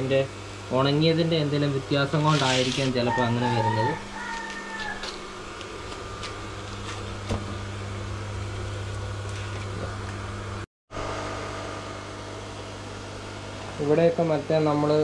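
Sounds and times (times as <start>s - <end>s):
air pump electric hum: 0.0s - 15.0s.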